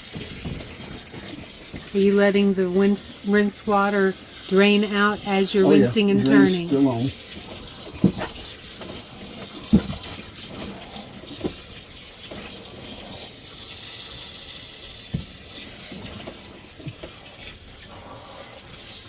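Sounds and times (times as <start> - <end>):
water running from hose: 0.0 - 19.0.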